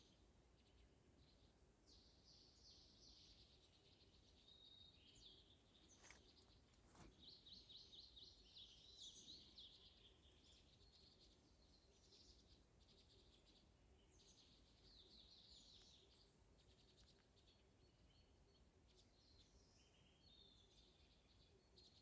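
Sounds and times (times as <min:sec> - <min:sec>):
faint songbirds chirping: 0:00.0 - 0:22.0.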